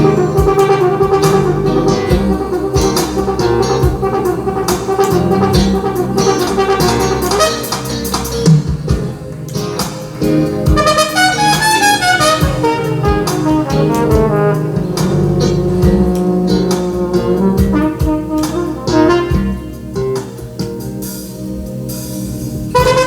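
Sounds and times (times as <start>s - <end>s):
instrumental jazz with brass lead: 0.0s - 23.0s.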